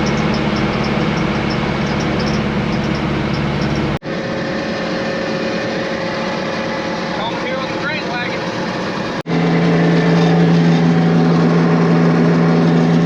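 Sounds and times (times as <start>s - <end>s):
heavy machinery engine running: 0.0s - 13.0s
second quieter engine running: 0.0s - 13.0s.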